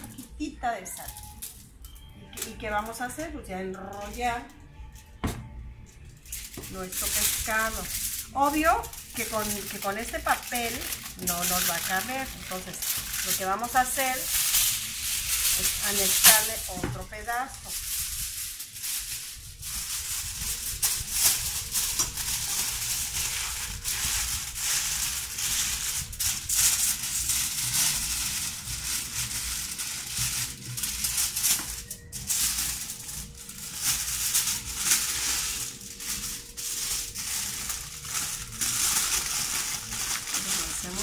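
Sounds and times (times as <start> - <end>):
aluminium foil crinkling: 0.0 - 41.0.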